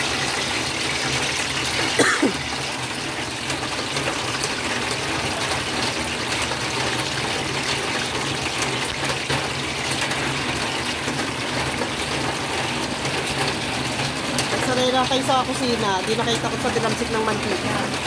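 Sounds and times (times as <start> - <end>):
hot oil sizzling: 0.0 - 18.0.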